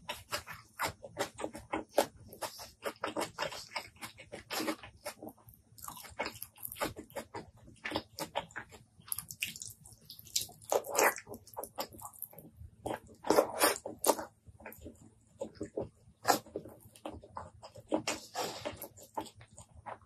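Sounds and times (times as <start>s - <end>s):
wet chewing and mouth smacking: 0.0s - 20.0s.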